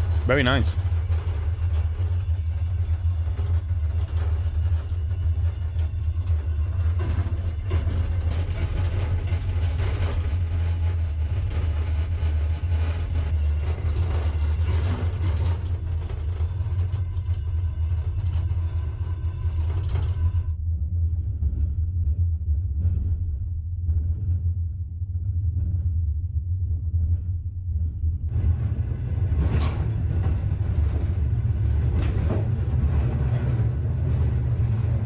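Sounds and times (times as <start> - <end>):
vehicle low rumble: 0.0 - 35.0.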